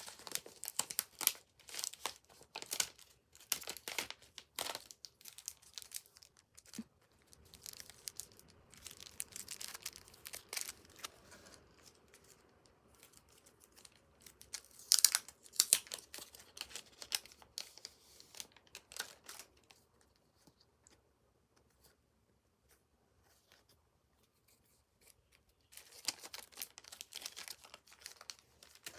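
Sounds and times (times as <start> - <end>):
packaging crinkling and tearing: 0.0 - 19.8, 25.3 - 28.9.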